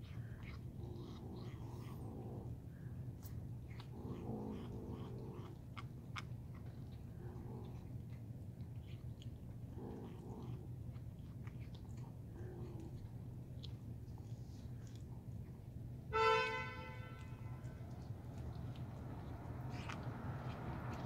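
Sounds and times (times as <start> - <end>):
kittens chewing food: 0.0 - 21.0
steady low hum: 0.0 - 21.0.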